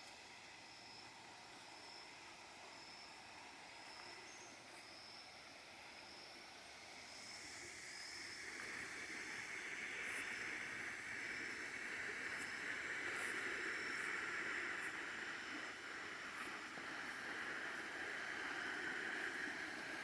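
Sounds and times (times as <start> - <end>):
soft steady hiss: 0.0 - 20.0.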